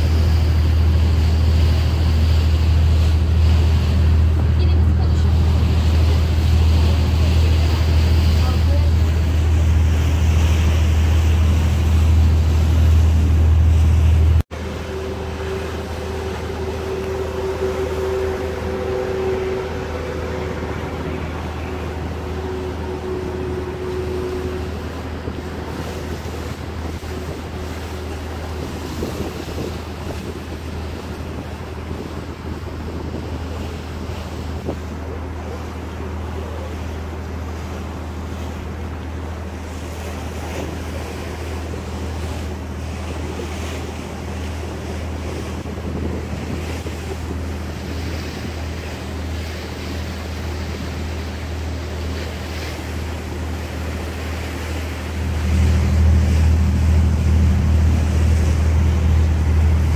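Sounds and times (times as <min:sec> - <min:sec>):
boat engine humming: 0:00.0 - 0:59.9
water rushing along hull: 0:00.0 - 0:59.9
wind on microphone: 0:00.0 - 0:59.9.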